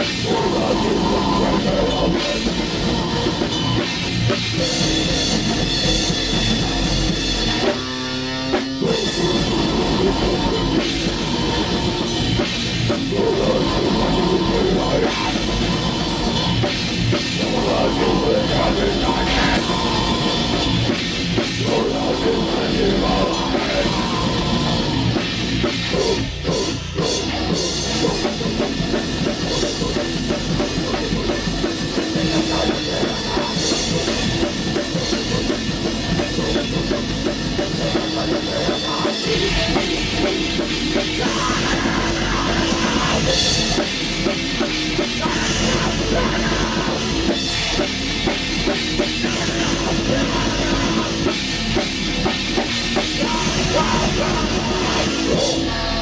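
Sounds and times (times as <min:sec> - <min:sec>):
black metal band playing live: 0:00.0 - 0:56.0.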